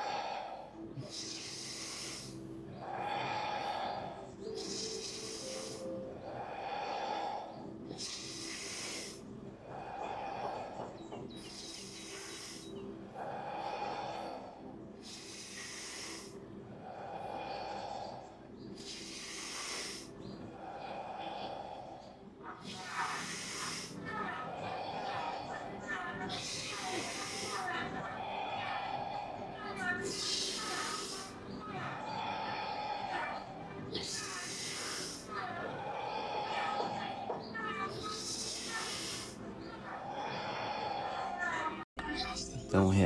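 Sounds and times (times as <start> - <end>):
person breathing forcefully: 0.0 - 39.4.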